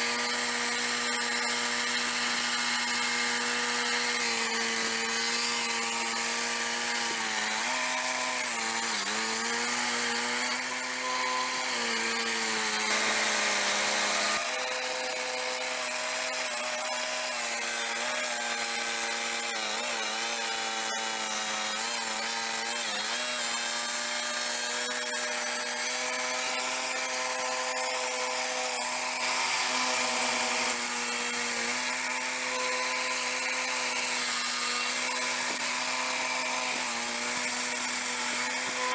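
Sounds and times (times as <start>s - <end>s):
sawmill engine and blade cutting log: 0.0s - 38.9s.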